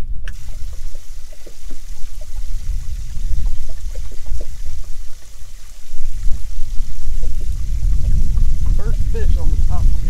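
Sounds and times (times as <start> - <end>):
heavy low rumble: 0.0 - 5.4, 6.0 - 10.0
water lapping against hull: 0.0 - 10.0.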